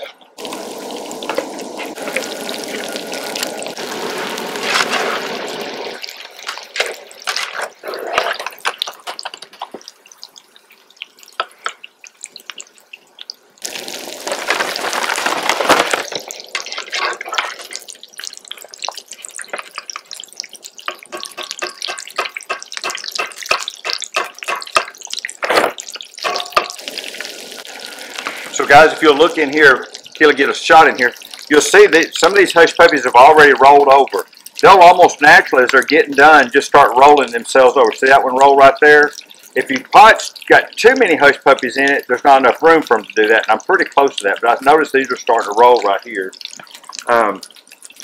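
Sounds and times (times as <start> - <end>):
food sizzling in hot grease: 0.0 - 48.0.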